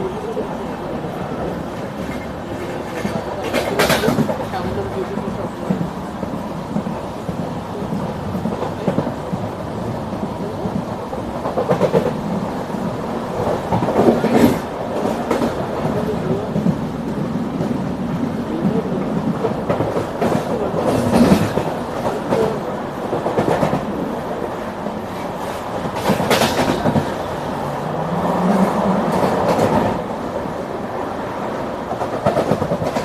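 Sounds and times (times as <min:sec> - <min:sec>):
train rumbling on rails: 0:00.0 - 0:33.0
wheels clacking over rail joints: 0:01.7 - 0:09.5, 0:10.1 - 0:30.2, 0:31.8 - 0:33.0.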